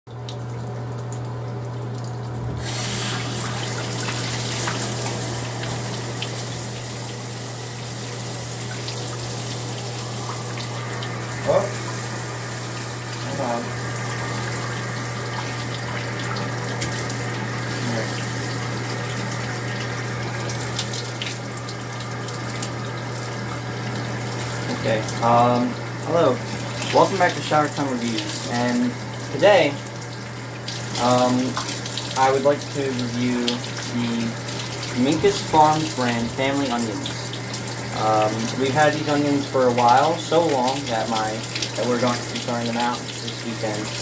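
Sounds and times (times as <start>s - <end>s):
shower water spraying: 2.4s - 44.0s.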